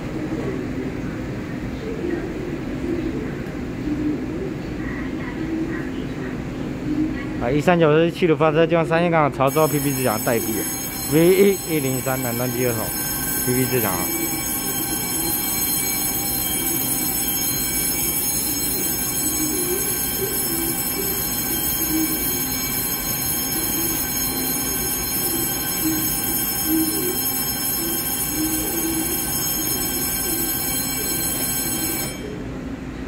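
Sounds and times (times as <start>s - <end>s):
train electrical hum and whine: 0.0s - 33.0s.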